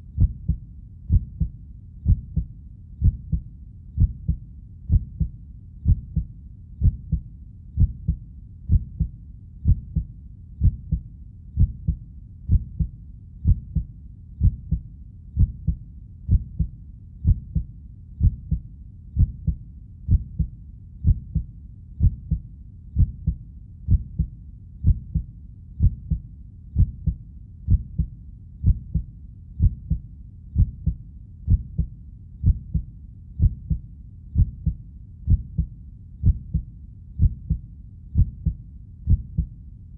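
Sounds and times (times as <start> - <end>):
heartbeat thumps: 0.2 - 14.8, 15.4 - 33.8, 34.4 - 37.6, 38.2 - 39.6.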